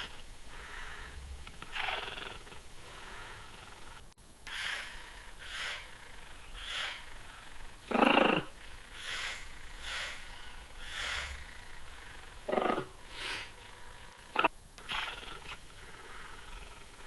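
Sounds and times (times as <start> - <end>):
breathy puffs: 0.0 - 1.9, 2.8 - 17.0
cat purring: 0.0 - 4.1, 4.8 - 17.0.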